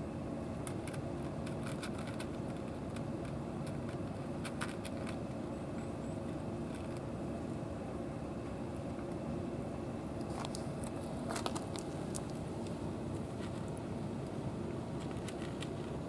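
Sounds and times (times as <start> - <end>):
low motor hum: 0.0 - 16.0
cats eating and licking: 0.4 - 7.7, 10.0 - 16.0.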